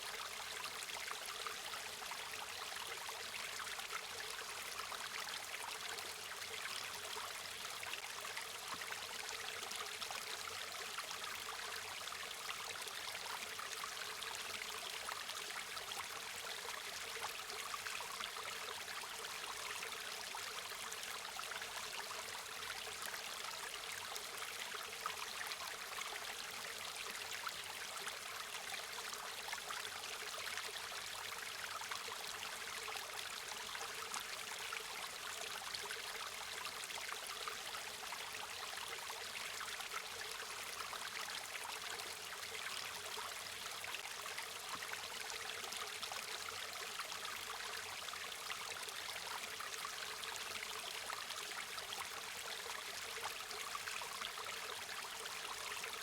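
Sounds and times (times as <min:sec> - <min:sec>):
stream water flowing and babbling: 0:00.0 - 0:56.0.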